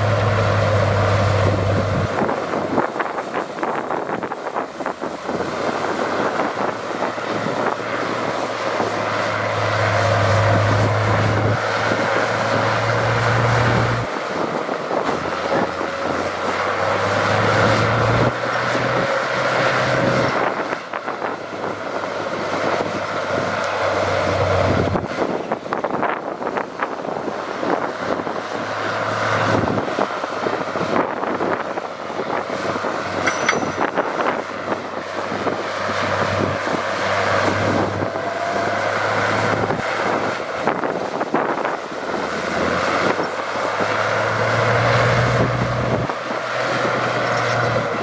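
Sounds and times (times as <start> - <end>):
diesel earthmoving machine engine: 0.0 - 48.0
rushing mechanical noise: 0.0 - 48.0.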